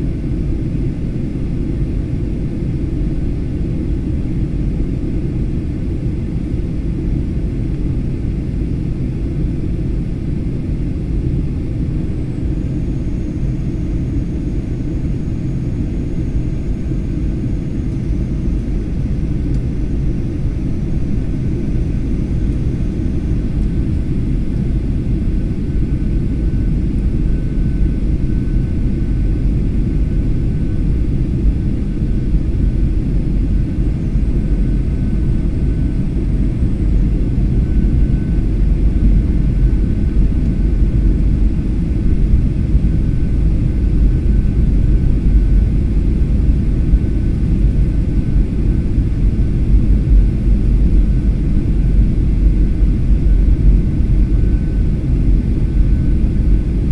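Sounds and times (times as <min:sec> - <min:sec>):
jet engine cabin rumble: 0:00.0 - 0:56.9.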